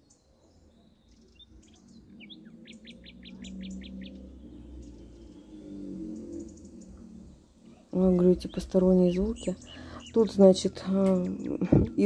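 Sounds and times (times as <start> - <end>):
bird call notes: 0.0 - 11.7
low steady hum: 0.0 - 12.0
songbird trilling: 0.0 - 12.0.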